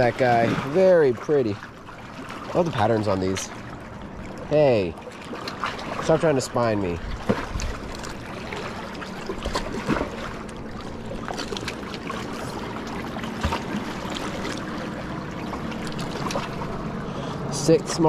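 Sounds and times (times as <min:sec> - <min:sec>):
water lapping against rocks: 0:00.0 - 0:18.0.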